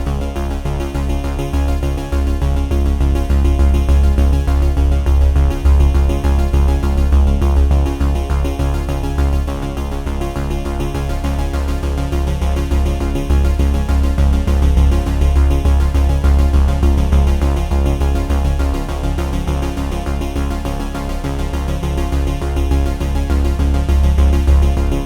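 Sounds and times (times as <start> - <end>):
electronic music with pulsing bass: 0.0 - 25.0.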